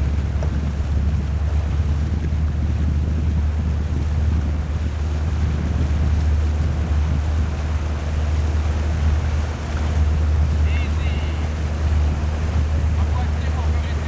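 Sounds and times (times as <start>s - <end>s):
water noise: 0.0s - 14.0s
wind buffeting microphone: 0.0s - 14.0s.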